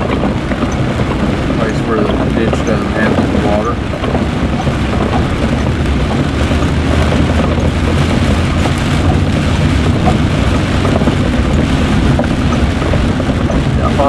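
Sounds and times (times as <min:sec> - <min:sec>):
vehicle rumbling on wet gravel: 0:00.0 - 0:14.0.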